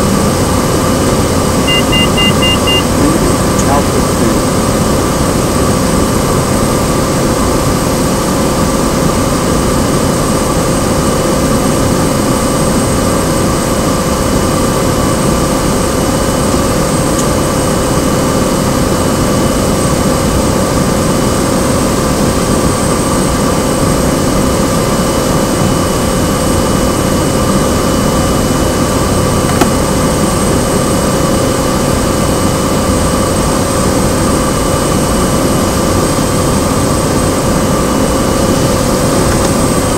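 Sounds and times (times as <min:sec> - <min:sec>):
turboprop engine and propeller: 0:00.0 - 0:39.9.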